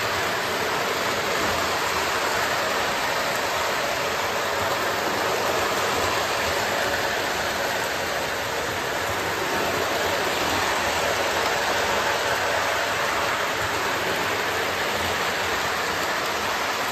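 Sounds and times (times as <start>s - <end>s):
toy trains whirring on metal track: 0.0s - 16.9s.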